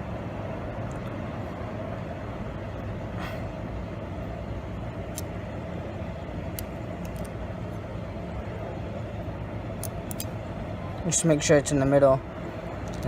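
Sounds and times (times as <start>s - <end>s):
low background hum and rumble: 0.0s - 13.0s.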